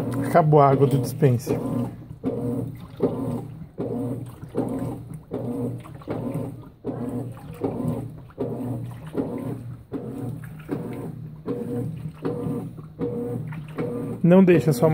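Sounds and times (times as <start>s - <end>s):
washing machine motor humming: 0.0s - 14.9s.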